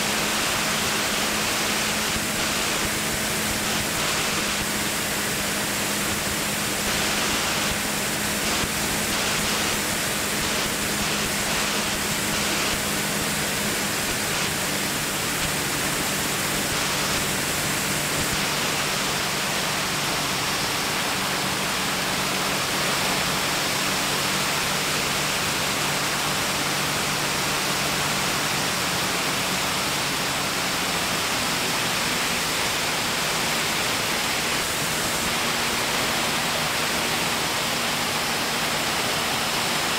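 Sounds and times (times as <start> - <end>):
low engine drone: 0.0 - 39.9
rushing airflow: 0.0 - 39.9.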